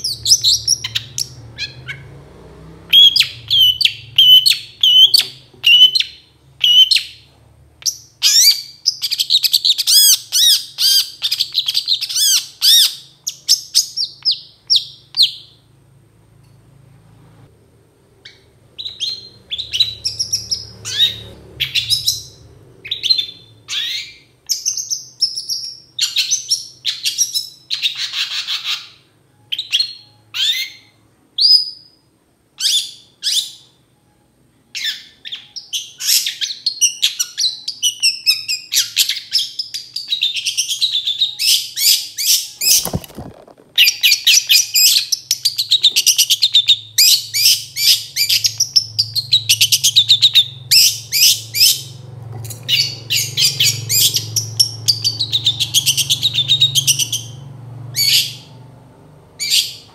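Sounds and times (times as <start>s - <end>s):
bird chattering song: 0.0s - 2.1s, 2.9s - 15.6s, 18.2s - 32.0s, 34.8s - 52.0s, 52.6s - 57.4s
bird chirping and trilling: 0.0s - 2.2s, 2.9s - 15.7s, 18.2s - 34.1s, 34.7s - 58.6s, 59.4s - 59.9s.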